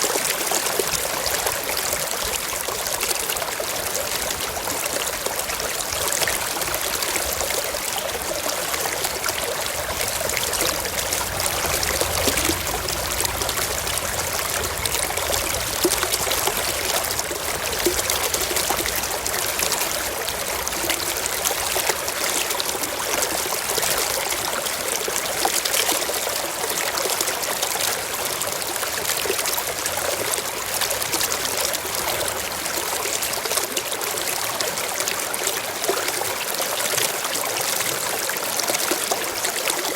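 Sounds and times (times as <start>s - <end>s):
small water splashes: 0.0s - 39.9s
stream trickling over rocks: 0.0s - 39.9s.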